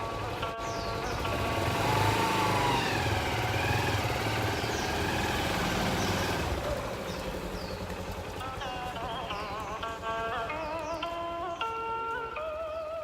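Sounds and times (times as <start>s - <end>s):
motorbike engine pulling away: 0.0s - 13.0s.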